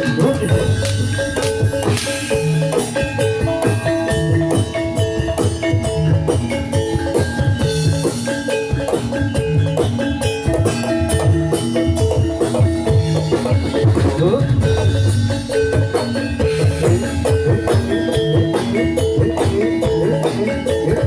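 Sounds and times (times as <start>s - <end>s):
hand-drum strokes: 0.0s - 21.0s
metallophones ringing: 0.0s - 21.0s.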